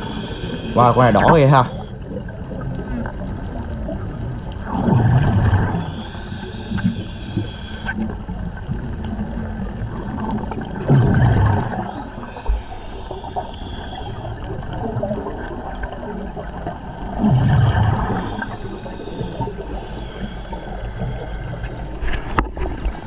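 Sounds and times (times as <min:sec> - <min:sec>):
steady underwater hiss: 0:00.0 - 0:23.0
underwater air bubbles gurgling: 0:00.0 - 0:23.0.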